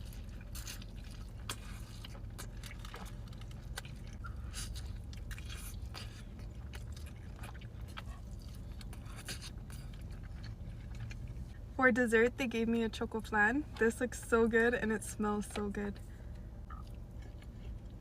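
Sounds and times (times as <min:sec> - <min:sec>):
chewing with wet crunches: 0:00.0 - 0:18.0
steady low hum: 0:00.0 - 0:18.0.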